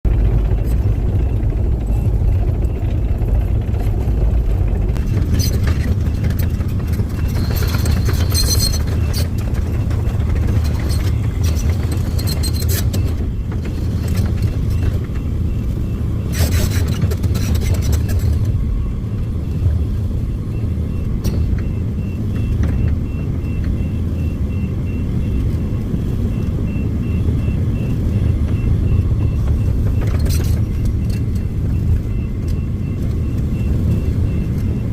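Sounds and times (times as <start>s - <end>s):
excavator diesel engine rumble: 0.0s - 34.9s
backup alarm beeping: 0.1s - 16.3s, 17.7s - 34.9s
metallic squeals and clanks: 5.0s - 34.9s.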